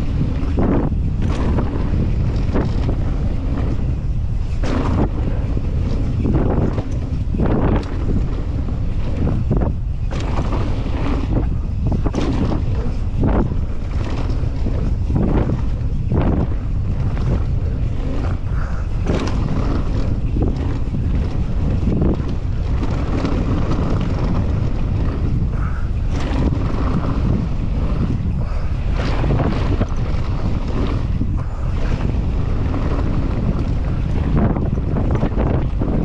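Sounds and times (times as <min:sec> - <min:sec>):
bike knocking and rattling: 0:00.0 - 0:36.0
wind buffeting microphone: 0:00.0 - 0:36.0.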